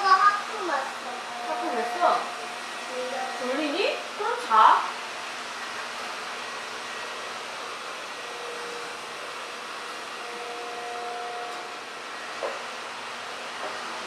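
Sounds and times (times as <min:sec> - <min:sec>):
faint humming tones: 0:00.0 - 0:14.0.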